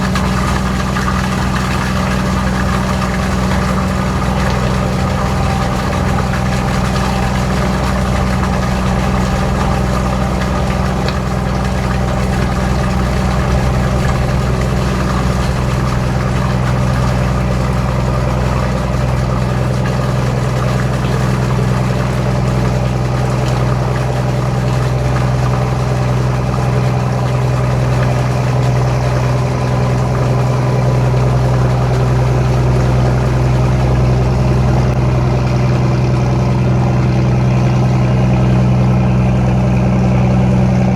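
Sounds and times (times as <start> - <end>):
boat engine humming: 0.0 - 40.9.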